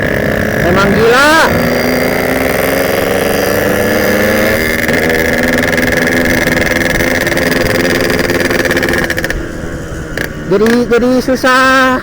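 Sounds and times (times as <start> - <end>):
motorcycle engine running hard: 0.0 - 12.0.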